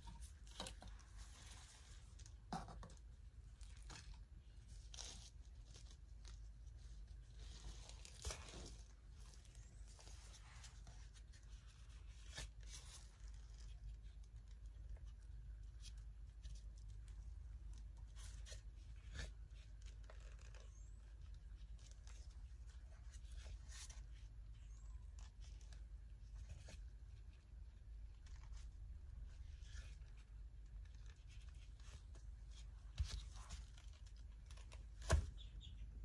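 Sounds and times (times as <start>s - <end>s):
faint clicks and scrapes: 0.0s - 36.0s.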